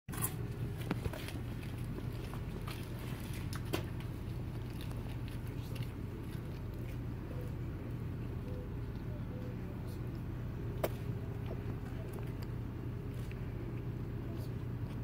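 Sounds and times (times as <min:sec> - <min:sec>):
low outdoor rumble: 0:00.1 - 0:15.0.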